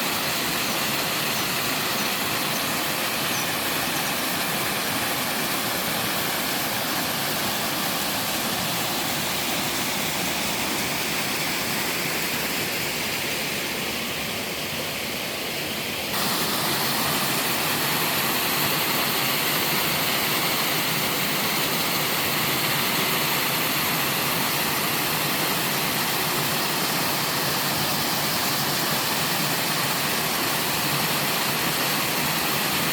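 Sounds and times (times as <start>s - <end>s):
waterfall rushing over rock: 0.0s - 15.2s, 15.9s - 32.9s.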